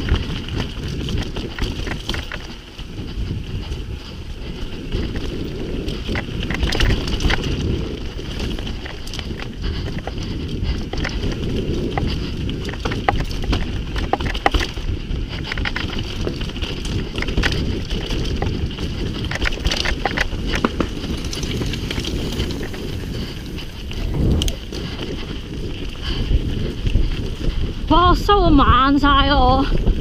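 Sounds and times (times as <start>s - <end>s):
bike clicks and rattles: 0.0s - 30.0s
wind on microphone: 0.0s - 30.0s.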